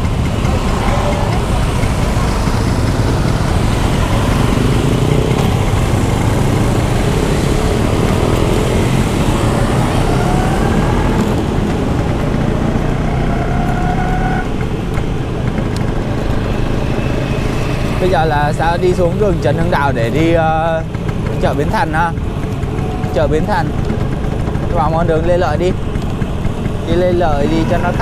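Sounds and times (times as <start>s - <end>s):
traffic rumble: 0.0s - 28.0s
two-stroke scooter engine: 0.0s - 28.0s.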